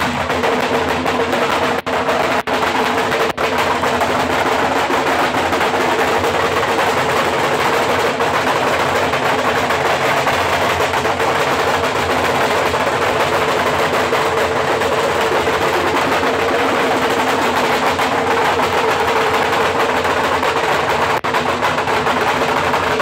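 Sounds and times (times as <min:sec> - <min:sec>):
drums rolling rattle: 0:00.0 - 0:23.0.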